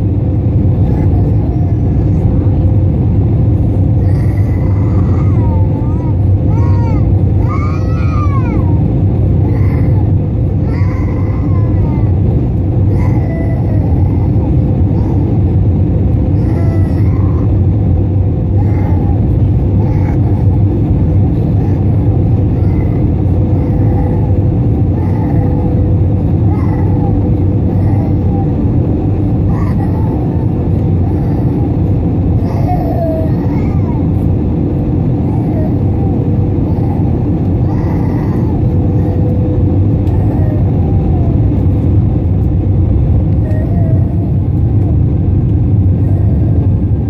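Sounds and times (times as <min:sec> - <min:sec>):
jet engines and airflow rumbling: 0:00.0 - 0:47.0
steady hum: 0:00.0 - 0:47.0.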